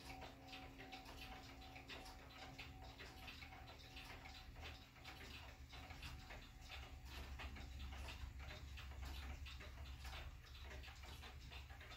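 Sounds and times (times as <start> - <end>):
pendulum clocks ticking: 0.0 - 11.9.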